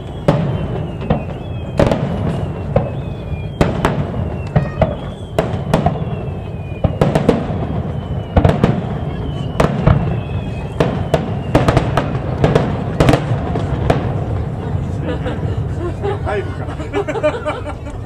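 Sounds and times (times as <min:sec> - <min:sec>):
fireworks bursting: 0:00.0 - 0:18.0
fireworks whistling: 0:00.0 - 0:18.0.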